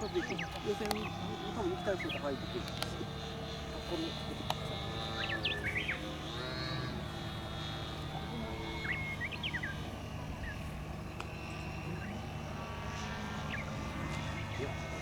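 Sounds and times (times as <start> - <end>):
birds chirping: 0.0 - 15.0
model plane propeller droning: 0.0 - 15.0.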